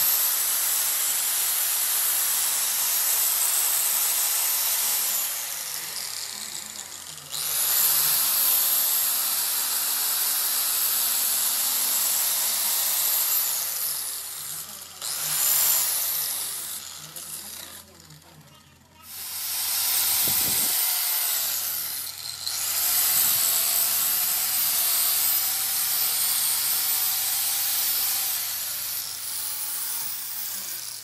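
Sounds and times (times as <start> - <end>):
angle grinder grinding steel: 0.0 - 31.0.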